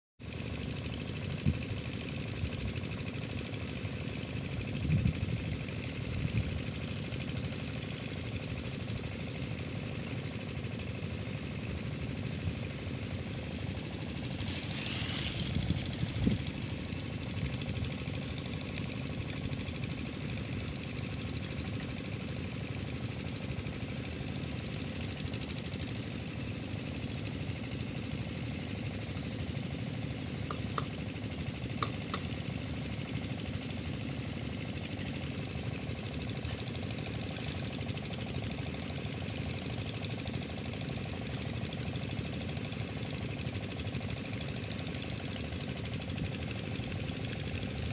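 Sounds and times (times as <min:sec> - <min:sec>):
stationary engine running: 0:00.2 - 0:47.9.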